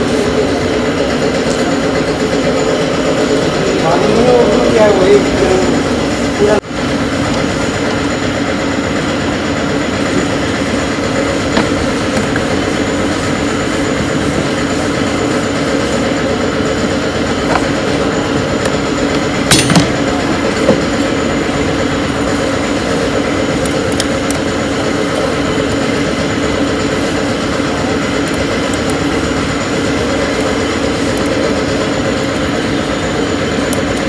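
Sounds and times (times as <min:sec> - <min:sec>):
mechanical drone: 0:00.0 - 0:34.0.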